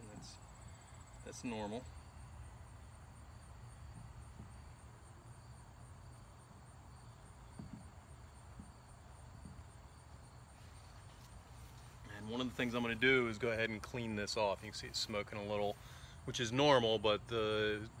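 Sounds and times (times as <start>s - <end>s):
insects trilling: 0.0s - 18.0s
low background hum: 0.0s - 18.0s.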